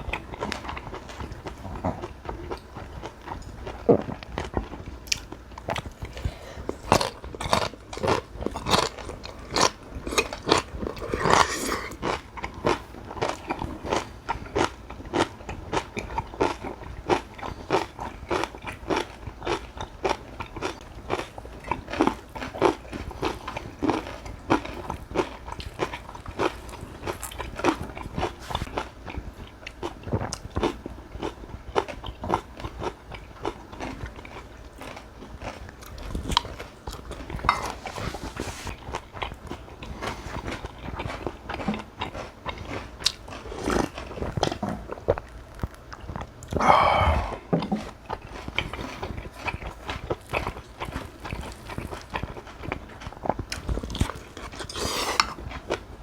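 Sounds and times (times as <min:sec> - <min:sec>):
chewing with sharp crunches: 0:00.0 - 0:56.0.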